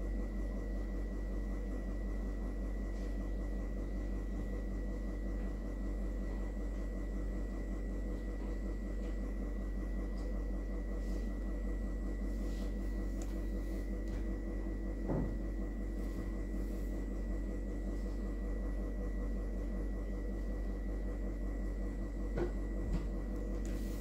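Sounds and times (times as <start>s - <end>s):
low hum: 2.5s - 24.0s.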